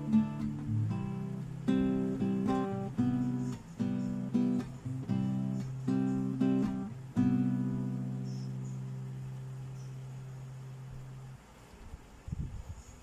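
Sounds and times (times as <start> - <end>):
acoustic guitar strumming chords: 0.0 - 11.4.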